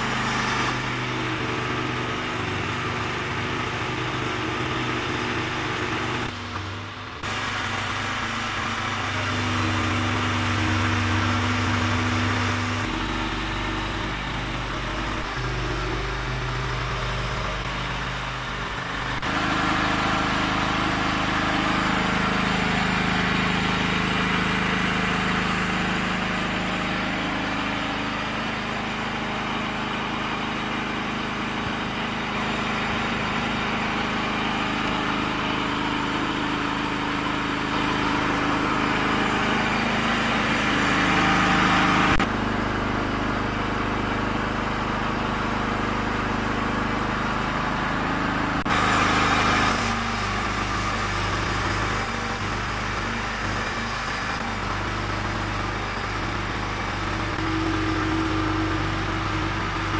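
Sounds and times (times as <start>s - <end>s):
bandsaw mill sawing log: 0.0s - 59.9s
petrol engine running: 0.0s - 59.9s.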